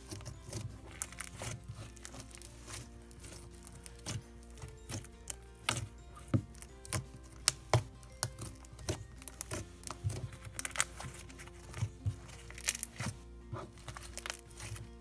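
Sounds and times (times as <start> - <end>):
slime clicking and popping: 0.0 - 13.1
background music with held notes: 0.0 - 15.0.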